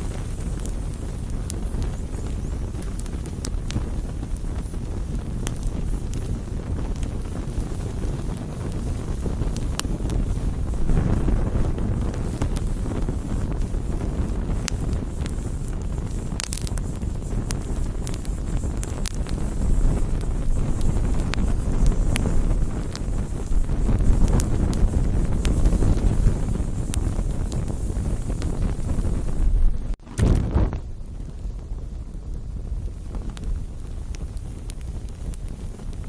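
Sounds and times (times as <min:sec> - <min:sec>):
low steady rumble: 0:00.0 - 0:35.9
campfire crackles and pops: 0:00.0 - 0:36.0.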